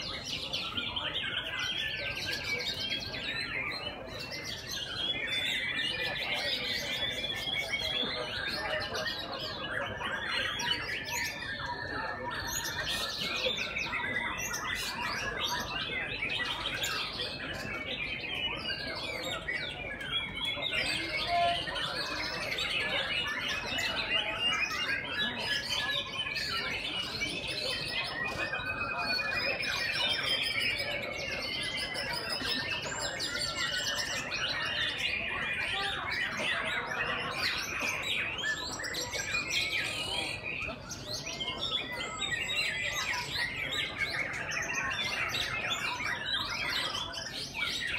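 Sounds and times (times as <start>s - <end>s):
many birds singing: 0.0s - 47.9s.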